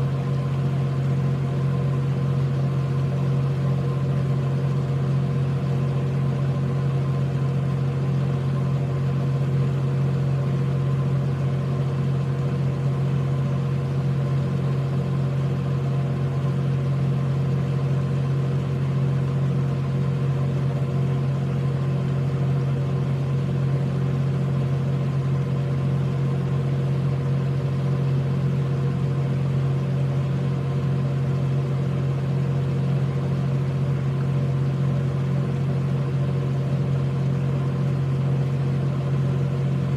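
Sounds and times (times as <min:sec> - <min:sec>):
low machine hum: 0:00.0 - 0:39.9.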